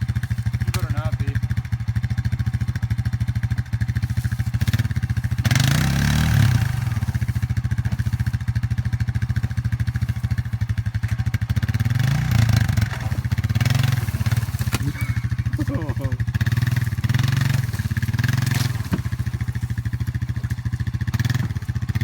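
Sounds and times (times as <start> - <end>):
atv engine running and revving: 0.0 - 22.0.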